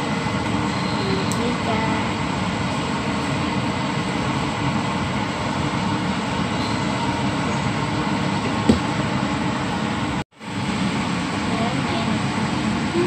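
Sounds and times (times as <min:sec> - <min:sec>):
fan motor whirring: 0:00.0 - 0:13.0.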